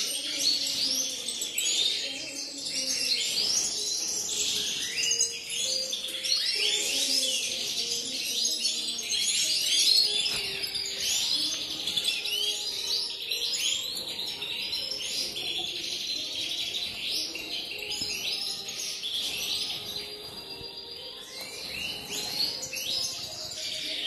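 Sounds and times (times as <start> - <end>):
goldfinches chirping: 0.0 - 24.0.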